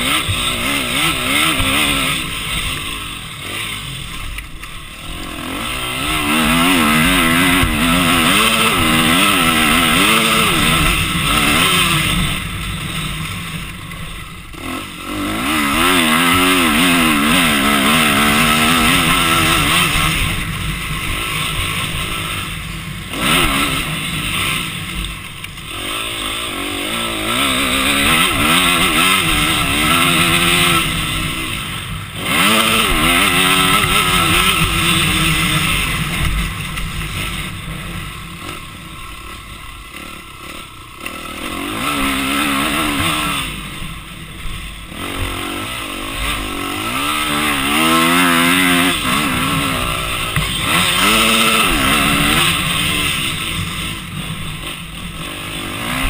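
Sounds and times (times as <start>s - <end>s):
off-road engine revving: 0.0s - 56.0s.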